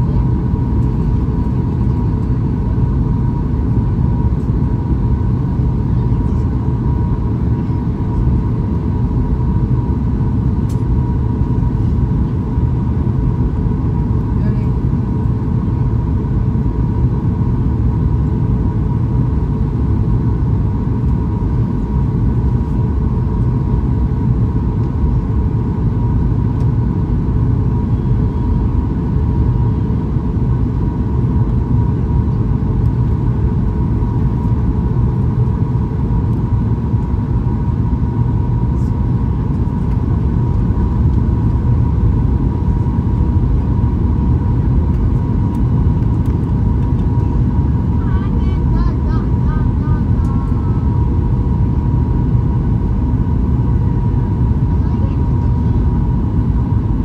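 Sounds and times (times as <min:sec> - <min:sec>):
airliner cabin engine rumble: 0:00.0 - 0:57.0
steady hum: 0:00.0 - 0:57.0
low hum: 0:09.4 - 0:57.0.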